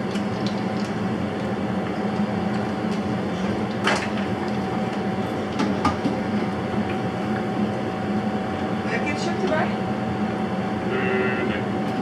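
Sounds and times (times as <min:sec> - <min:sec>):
extractor fan humming: 0:00.0 - 0:12.0.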